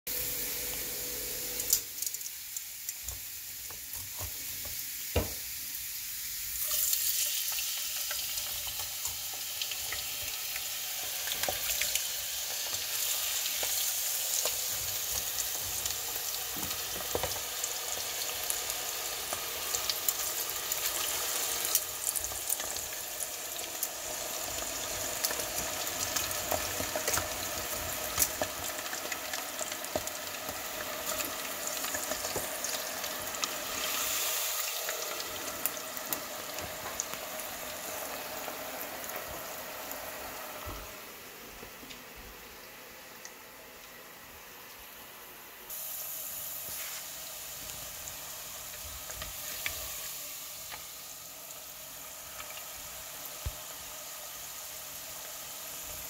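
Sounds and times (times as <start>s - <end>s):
potatoes frying in hot oil: 0.1s - 56.0s.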